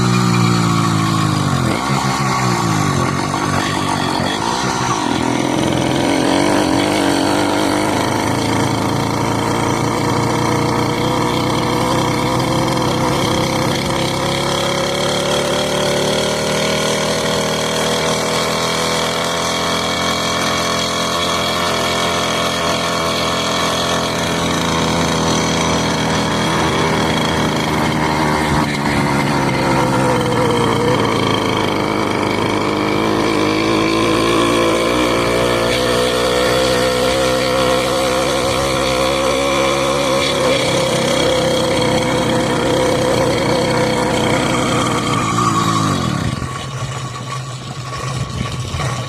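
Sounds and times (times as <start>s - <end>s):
motorcycle engine high revs: 0.0s - 49.0s.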